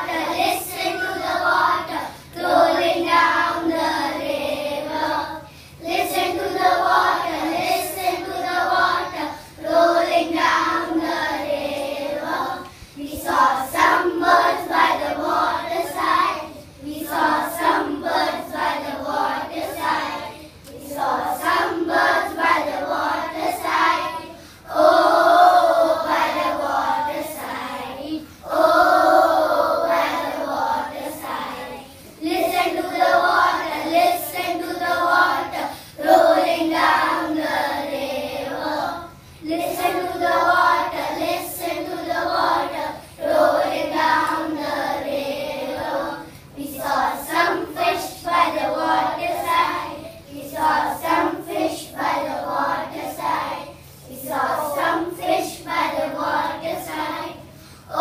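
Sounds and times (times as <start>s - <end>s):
young children singing together: 0.0s - 58.0s.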